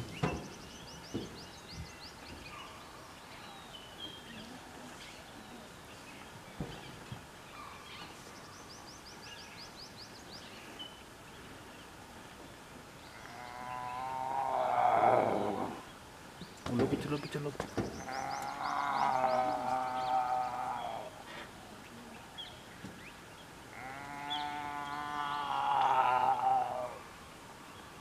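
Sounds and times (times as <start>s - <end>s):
birds calling: 0.0s - 28.0s
faint outdoor background: 0.0s - 28.0s.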